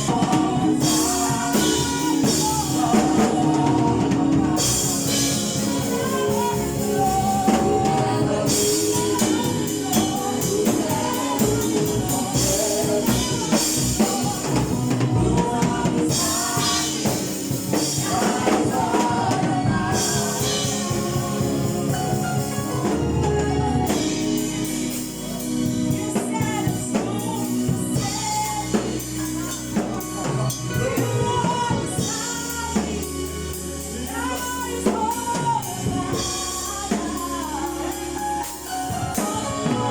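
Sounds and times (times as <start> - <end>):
drum kit beat: 0.0 - 39.9
gospel choir singing: 0.0 - 39.9.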